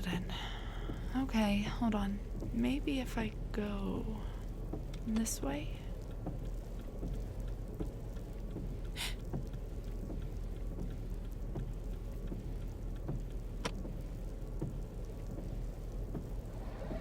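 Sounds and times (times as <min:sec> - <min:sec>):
rain patter on car: 0:00.0 - 0:17.0
engine and road hum: 0:03.4 - 0:17.0.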